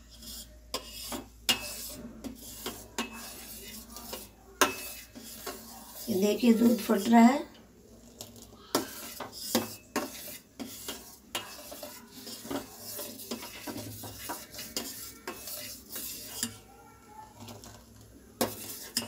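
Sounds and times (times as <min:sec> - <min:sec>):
metal spoon knocking and scraping pot: 0:00.0 - 0:07.6, 0:08.3 - 0:16.7, 0:17.4 - 0:19.0.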